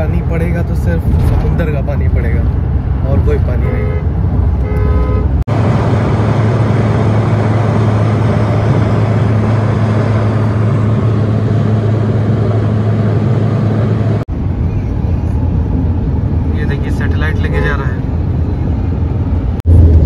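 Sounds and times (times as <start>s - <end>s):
car engine drone: 0.0s - 20.0s
road and wind noise rushing: 0.0s - 20.0s.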